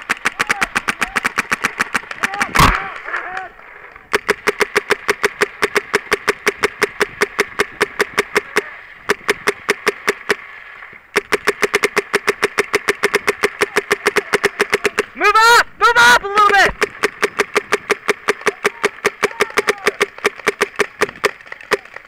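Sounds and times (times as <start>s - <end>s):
paintball marker firing rapidly: 0.0s - 3.4s, 4.1s - 10.4s, 11.2s - 15.2s, 16.4s - 22.0s.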